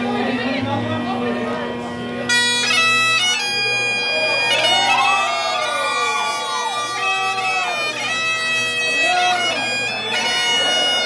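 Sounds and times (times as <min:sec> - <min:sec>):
bagpipe drone: 0:00.0 - 0:11.0
bagpipe melody: 0:01.2 - 0:11.0.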